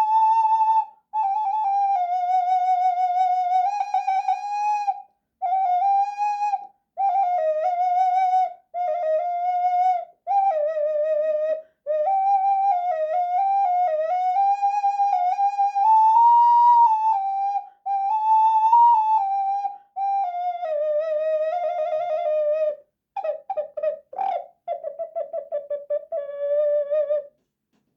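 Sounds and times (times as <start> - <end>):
ocarina melody: 0.0 - 27.4.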